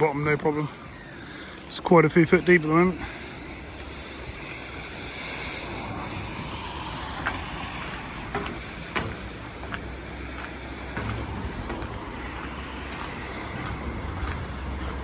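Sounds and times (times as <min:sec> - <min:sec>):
wind buffeting microphone: 0:02.8 - 0:15.0.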